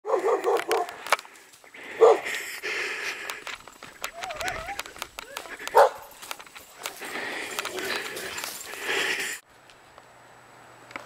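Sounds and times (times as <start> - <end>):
footsteps crunching over rocks and brush: 0.1 - 9.4
twigs crackling and snapping: 0.2 - 9.8.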